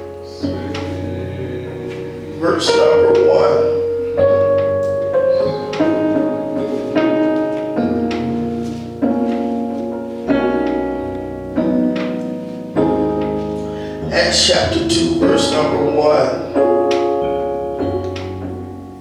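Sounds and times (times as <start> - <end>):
keyboard playing sustained chords: 0.0 - 19.0.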